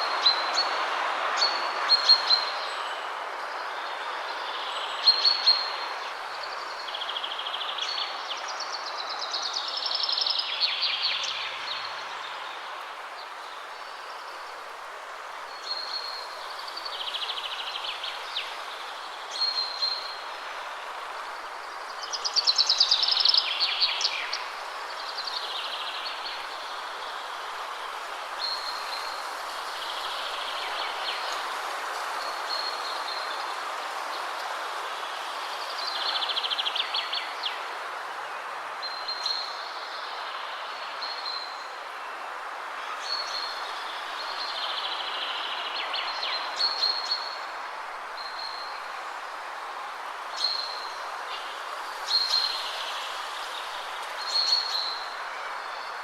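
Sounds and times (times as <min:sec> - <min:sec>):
wind rushing through trees: 0:00.0 - 0:56.0.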